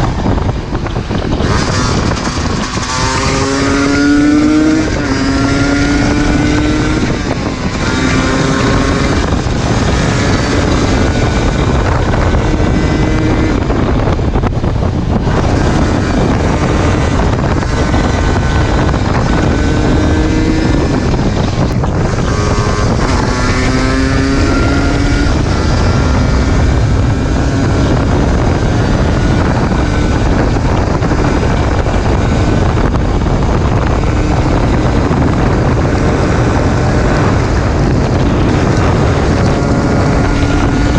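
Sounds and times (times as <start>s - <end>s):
two-stroke motorcycle engine accelerating: 0.0s - 40.9s
wind noise on microphone: 0.0s - 40.9s.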